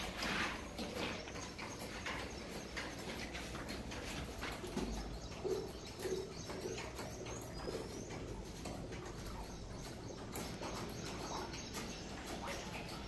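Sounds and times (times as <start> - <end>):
bird cooing: 0.0 - 13.0
faint light ticks and scrapes: 0.0 - 13.0.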